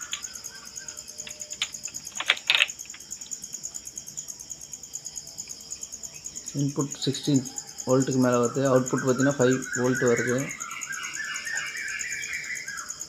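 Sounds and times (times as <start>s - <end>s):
steady high-pitched chirping: 0.0s - 13.0s.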